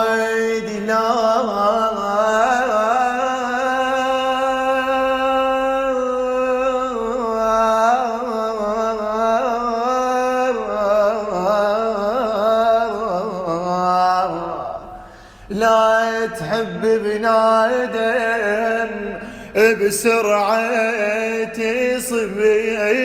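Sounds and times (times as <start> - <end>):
man singing unaccompanied: 0.0 - 14.9, 15.5 - 23.0.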